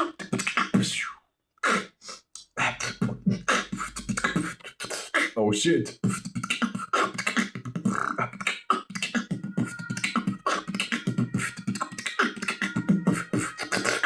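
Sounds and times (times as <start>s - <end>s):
man beatboxing: 0.0s - 14.0s.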